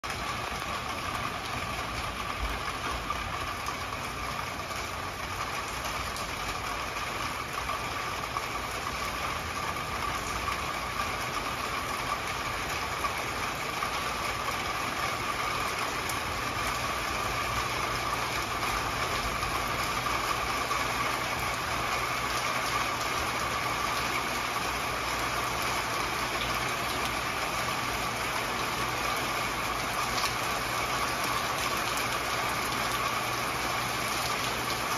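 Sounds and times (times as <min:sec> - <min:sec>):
rain falling on pool and patio: 0:00.0 - 0:34.9.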